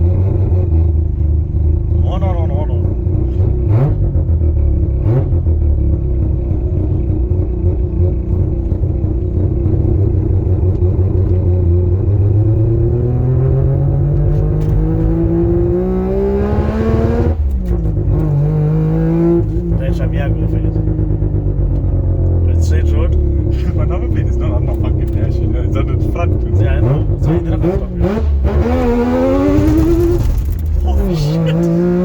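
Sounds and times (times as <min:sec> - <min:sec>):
rotary engine revving: 0:03.0 - 0:06.0, 0:07.8 - 0:32.0.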